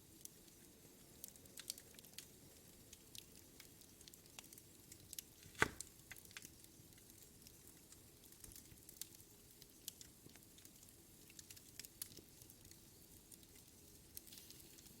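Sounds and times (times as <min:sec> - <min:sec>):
burning wood popping: 0:01.3 - 0:15.0.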